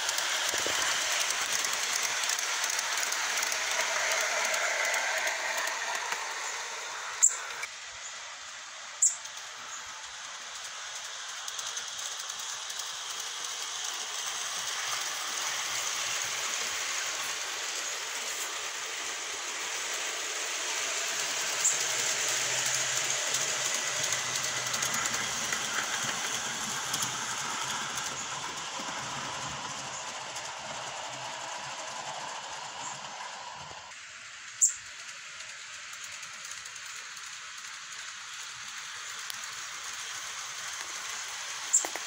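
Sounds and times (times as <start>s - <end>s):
model train wheels clattering: 0.0s - 42.0s.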